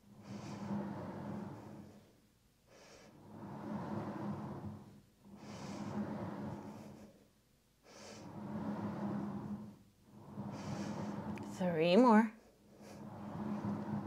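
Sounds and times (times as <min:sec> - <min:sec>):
low machine hum: 0:00.0 - 0:02.2, 0:03.1 - 0:07.4, 0:08.0 - 0:14.0
exercise machine carriage rolling: 0:00.0 - 0:14.0.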